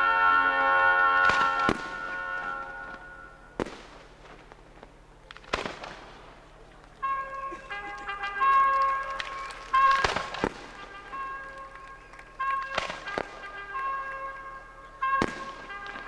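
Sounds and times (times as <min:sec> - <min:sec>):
held brass chords: 0:00.0 - 0:04.6, 0:06.5 - 0:16.0
fireworks bangs: 0:00.0 - 0:16.0.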